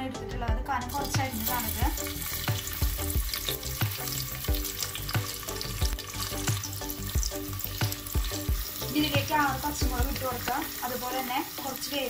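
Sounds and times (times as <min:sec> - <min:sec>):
background music with beat: 0:00.0 - 0:10.7
onions sizzling in oil: 0:00.9 - 0:12.0.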